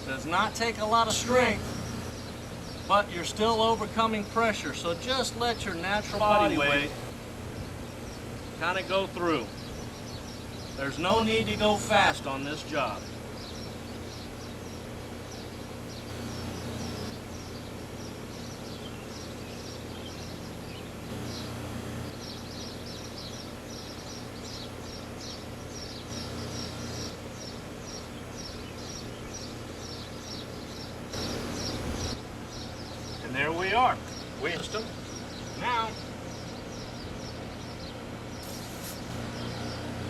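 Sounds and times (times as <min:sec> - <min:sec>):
air conditioner unit humming: 0:00.0 - 0:40.0.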